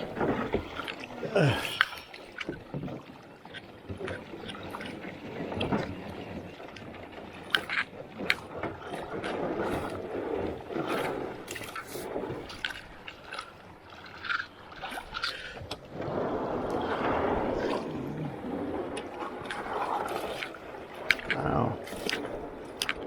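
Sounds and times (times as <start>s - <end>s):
paddle splashing water: 0.0s - 23.0s.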